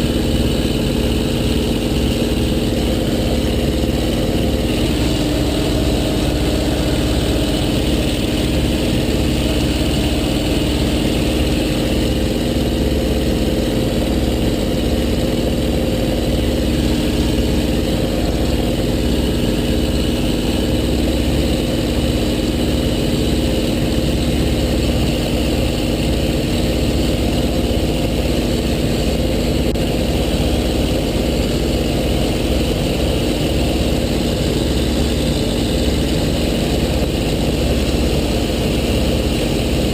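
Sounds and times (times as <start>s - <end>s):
rc plane motor and propeller hum: 0.0s - 39.9s.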